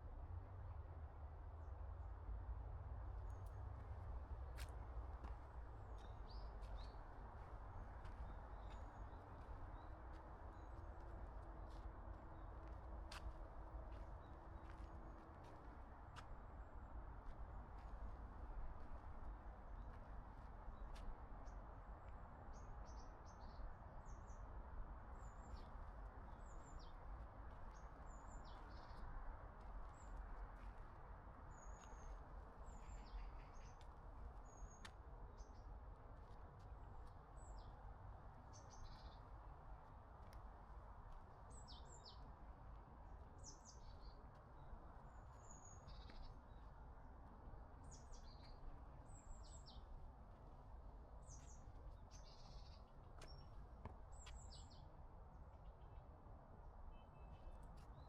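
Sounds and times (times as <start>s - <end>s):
songbirds chirping: 3.2s - 58.0s.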